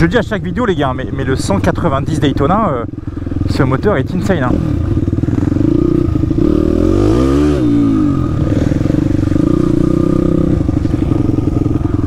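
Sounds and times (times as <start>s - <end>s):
motorbike engine revving: 1.0s - 12.0s.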